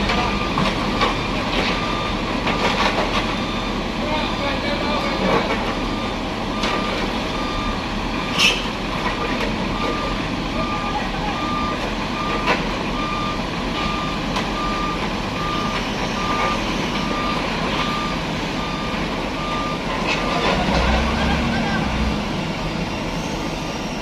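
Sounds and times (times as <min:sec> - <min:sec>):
truck engine running: 0:00.0 - 0:23.2
truck reversing alarm beeping: 0:00.0 - 0:24.0.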